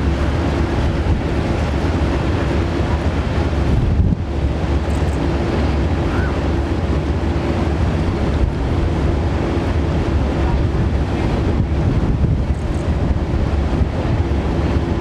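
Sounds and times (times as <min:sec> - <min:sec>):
ferry engines droning: 0:00.0 - 0:15.0
water rushing past hull: 0:00.0 - 0:15.0
wind rumbling on microphone: 0:00.0 - 0:15.0.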